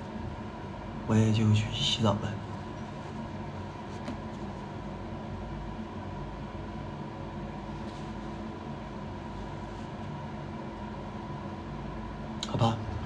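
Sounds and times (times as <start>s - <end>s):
ventilation hum: 0.0s - 13.0s.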